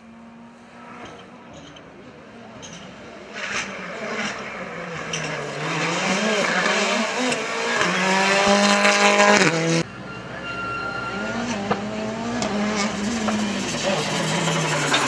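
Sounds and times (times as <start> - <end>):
rally car engine passing at high revs: 0.0 - 9.9, 11.0 - 15.0
distant rally car engine through gears: 0.0 - 15.0.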